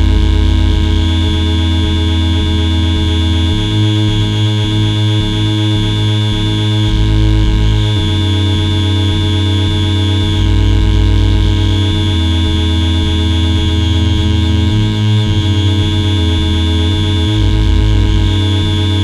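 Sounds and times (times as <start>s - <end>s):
low pulsing throb: 0.0s - 19.0s
steady synthetic tones: 0.0s - 19.0s.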